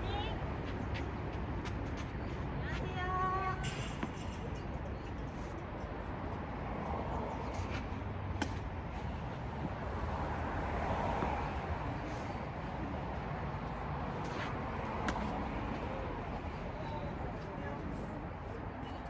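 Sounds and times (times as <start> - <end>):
distant road traffic: 0.0 - 19.0.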